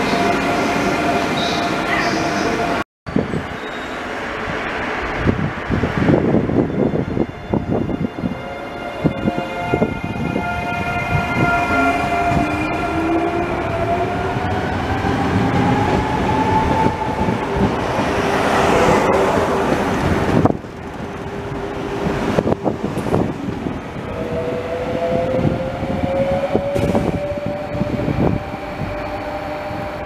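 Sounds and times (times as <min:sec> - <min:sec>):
train wheels rolling on rails: 0:03.3 - 0:30.0.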